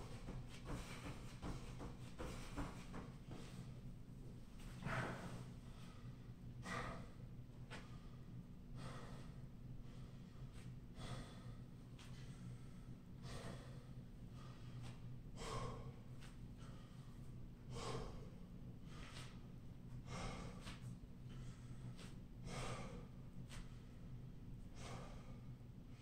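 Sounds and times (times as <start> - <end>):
man breathing hard: 0.0 - 3.9, 4.6 - 26.0.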